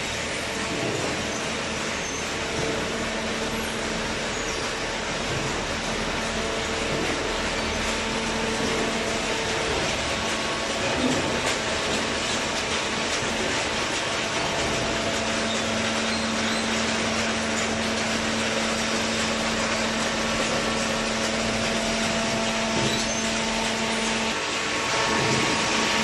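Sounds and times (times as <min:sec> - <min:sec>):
baler machine running: 0:00.0 - 0:26.0
machine hum: 0:00.0 - 0:26.0.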